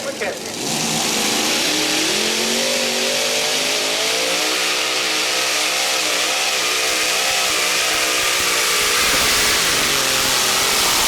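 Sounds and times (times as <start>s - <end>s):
tractor engine at full throttle: 0.0s - 11.0s.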